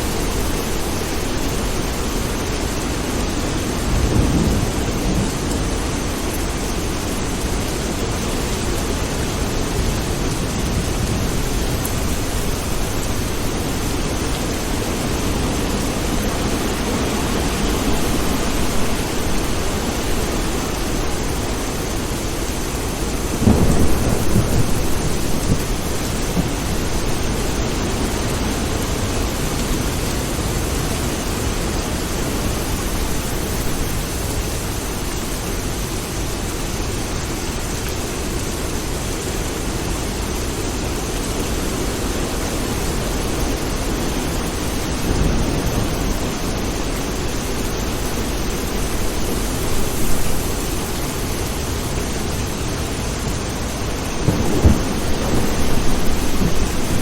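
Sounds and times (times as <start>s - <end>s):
low rolling thunder: 0.0s - 31.6s, 42.1s - 57.0s
steady rain: 0.0s - 57.0s.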